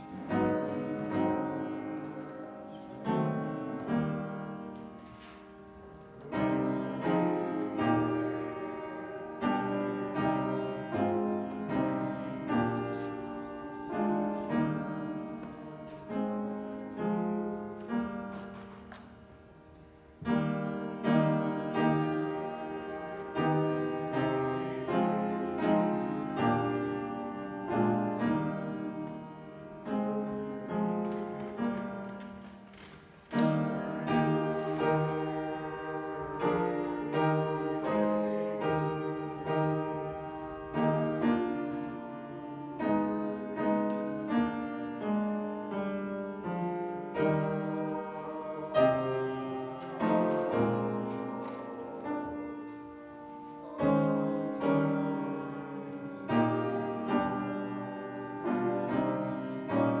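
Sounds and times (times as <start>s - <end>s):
piano playing hymn tune: 0.0s - 60.0s.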